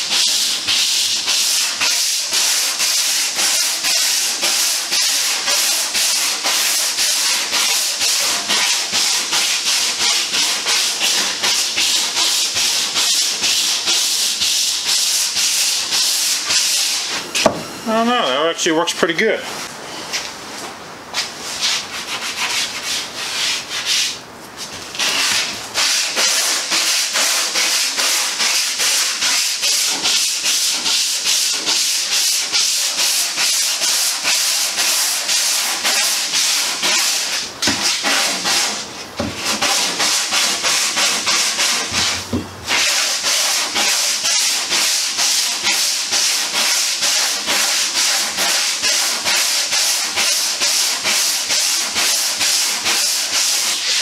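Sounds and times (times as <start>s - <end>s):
sanding block scraping: 0.0s - 17.3s, 21.2s - 24.2s, 24.9s - 54.0s.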